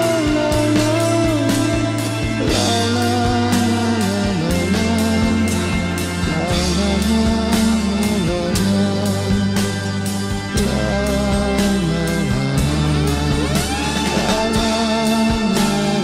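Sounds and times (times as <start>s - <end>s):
bass: 0.0s - 16.0s
drum beat: 0.0s - 16.0s
electric guitar: 0.0s - 16.0s
person singing: 0.0s - 16.0s.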